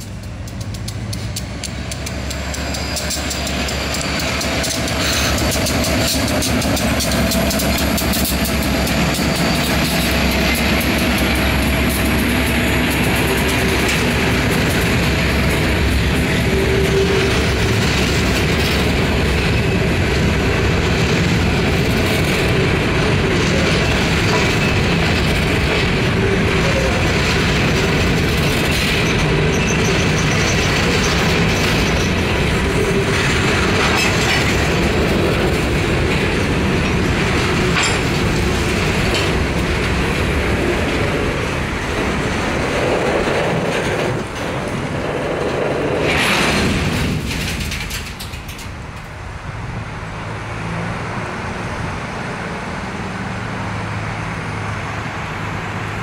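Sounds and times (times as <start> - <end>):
freight car wheels clacking on rails: 0.0 - 49.2
diesel locomotive passing: 0.0 - 56.0.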